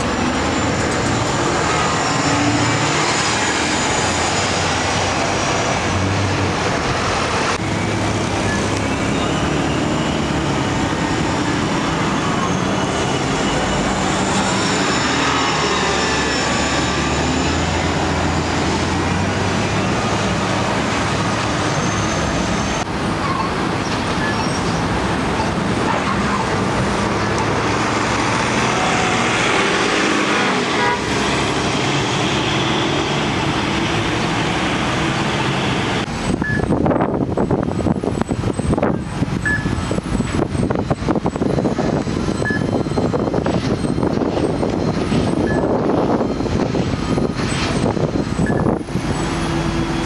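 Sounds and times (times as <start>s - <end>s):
bus engine passing: 0.0s - 50.0s
street traffic noise: 0.0s - 50.0s.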